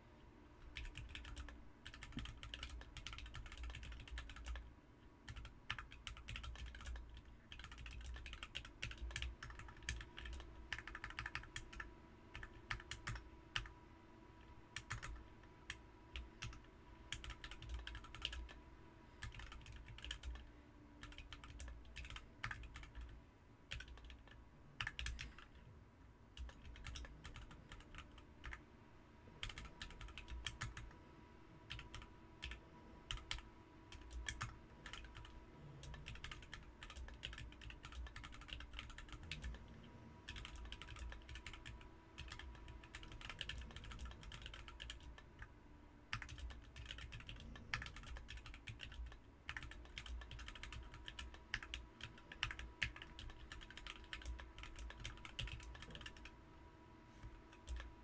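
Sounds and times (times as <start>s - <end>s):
mechanical keyboard typing: 0.7s - 4.7s, 5.3s - 13.7s, 14.8s - 18.6s, 19.2s - 25.6s, 26.4s - 28.6s, 29.4s - 31.0s, 31.7s - 45.5s, 46.1s - 56.3s, 57.5s - 58.0s.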